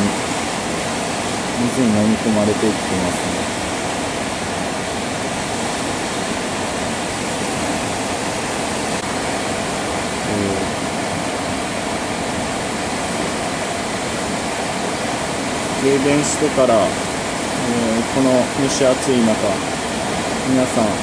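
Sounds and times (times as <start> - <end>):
flooded river rushing: 0.0 - 21.0.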